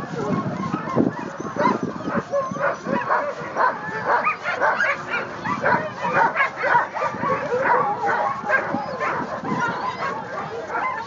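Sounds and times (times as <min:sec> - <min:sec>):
many dogs barking and yelping: 0:00.0 - 0:11.0.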